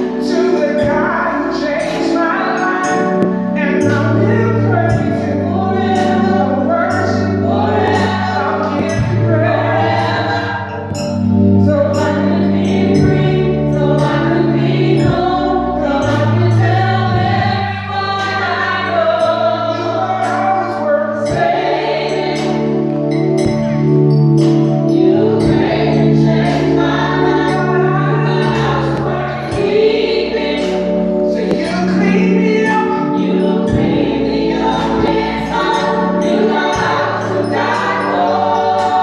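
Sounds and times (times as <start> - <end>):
band accompaniment with held bass: 0.0 - 39.0
gospel choir singing: 0.0 - 39.0.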